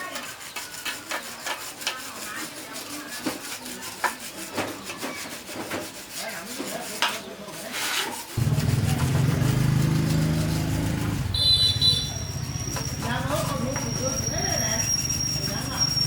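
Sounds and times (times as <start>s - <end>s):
rubbing and scraping by hand: 0.0s - 16.0s.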